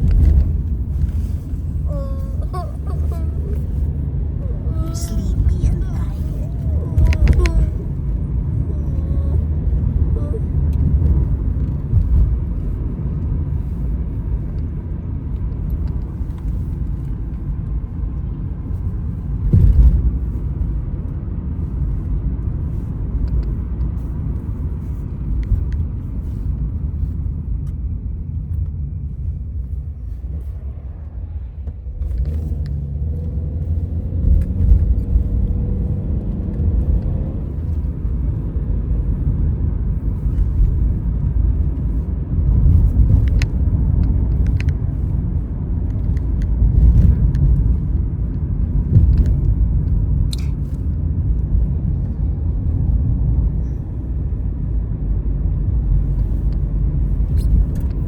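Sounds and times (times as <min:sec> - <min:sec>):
vehicle rumbling: 0:00.0 - 0:58.0.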